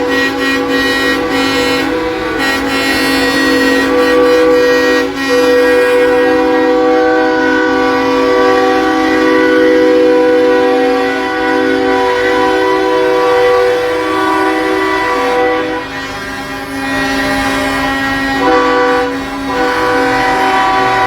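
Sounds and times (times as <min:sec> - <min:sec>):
truck air horns chord: 0:00.0 - 0:21.0.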